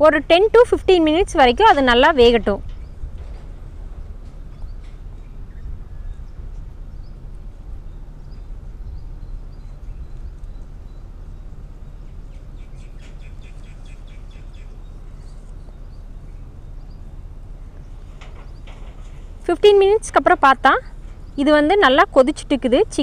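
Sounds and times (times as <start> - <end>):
low rumble of background noise: 0.0 - 23.0
small birds chirping: 1.9 - 23.0.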